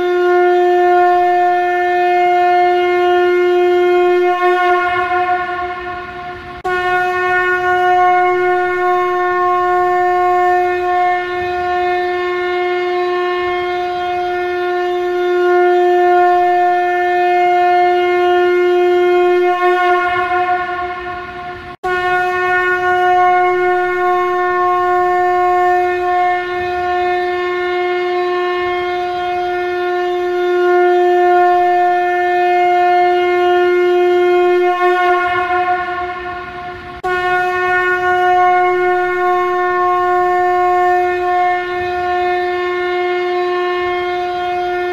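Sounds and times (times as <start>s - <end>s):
conch shell blasts: 0.0s - 44.9s.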